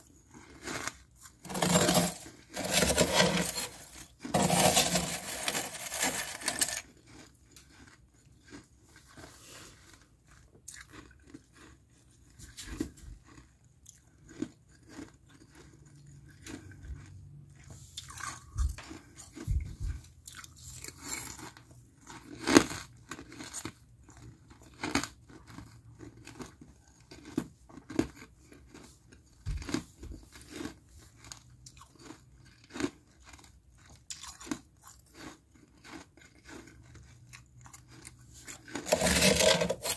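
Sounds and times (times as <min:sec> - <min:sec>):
frost being crunched and chewed: 0:03.5 - 0:19.4, 0:20.2 - 0:39.9.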